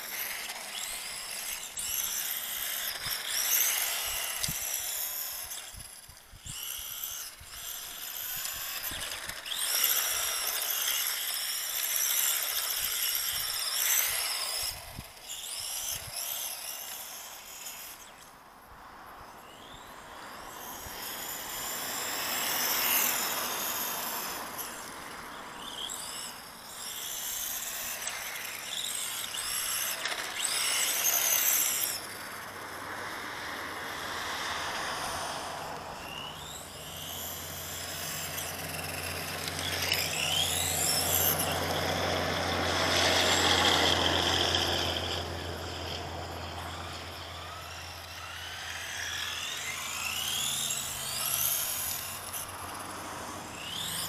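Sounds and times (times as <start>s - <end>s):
electric motor whining: 0.0s - 18.4s, 19.4s - 54.0s.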